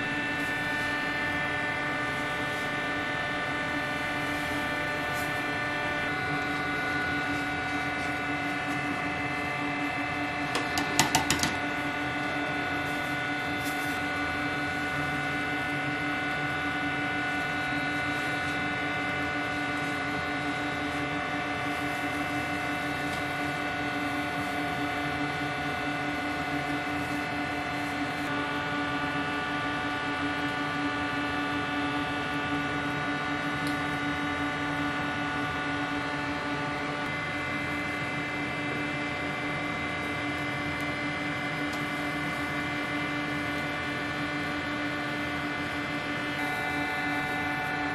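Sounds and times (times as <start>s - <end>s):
steady mechanical hum: 0.0s - 47.9s.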